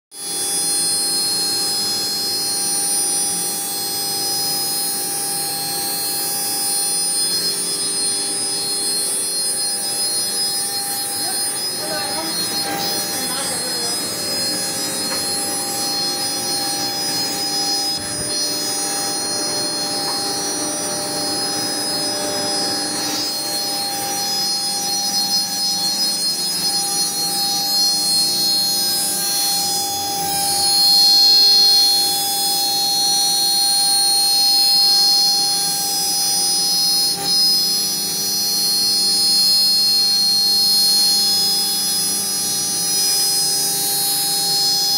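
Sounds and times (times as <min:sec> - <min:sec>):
wood router whine: 0:00.1 - 0:44.9.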